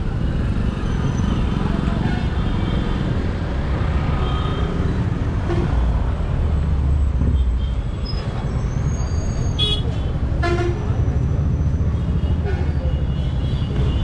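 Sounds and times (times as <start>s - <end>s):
traffic engines rumbling: 0.0s - 14.0s.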